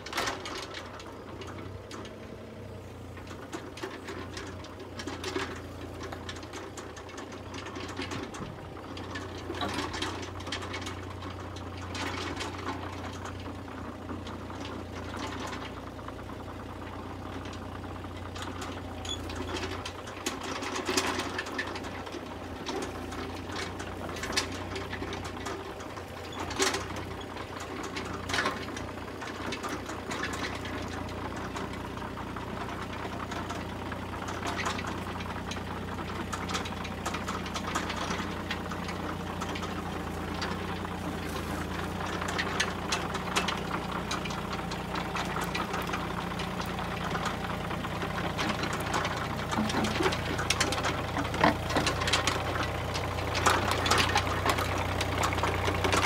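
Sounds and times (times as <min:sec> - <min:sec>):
excavator tracks clanking: 0:00.0 - 0:56.0
small diesel engine clattering: 0:00.0 - 0:56.0.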